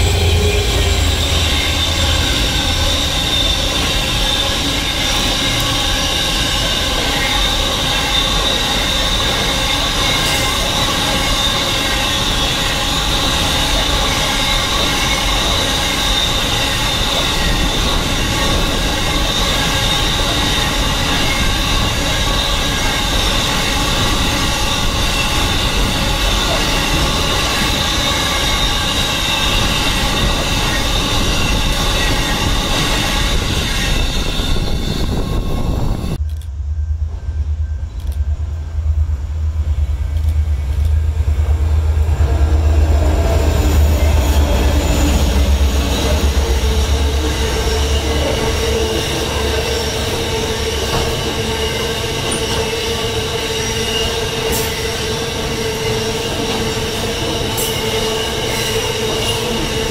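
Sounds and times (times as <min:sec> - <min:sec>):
train wheel squeal: 0:00.0 - 0:38.4, 0:39.7 - 0:59.9
diesel locomotive low rumble: 0:00.0 - 0:59.9.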